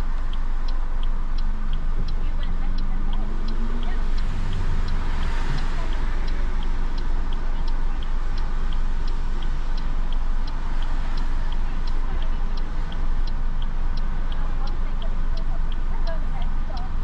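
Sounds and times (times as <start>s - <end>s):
car driving rumble: 0.0s - 17.0s
turn signal ticking: 0.0s - 17.0s.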